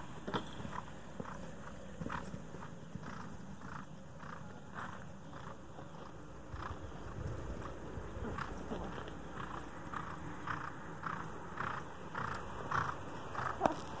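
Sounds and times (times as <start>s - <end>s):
horse cantering on sand: 0.0s - 14.0s.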